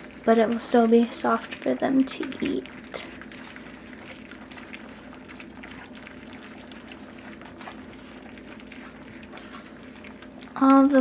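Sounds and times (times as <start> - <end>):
puppies lapping and chewing food: 0.0 - 11.0.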